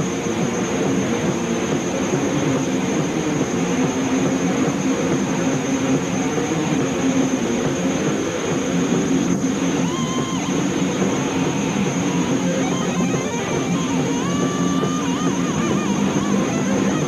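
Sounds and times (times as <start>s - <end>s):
live metal concert roar: 0.0s - 17.0s.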